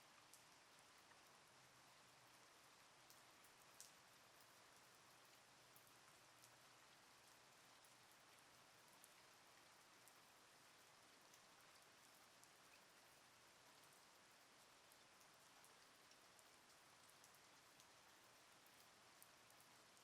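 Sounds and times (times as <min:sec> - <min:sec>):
faint steady rain hiss: 0:00.0 - 0:20.0.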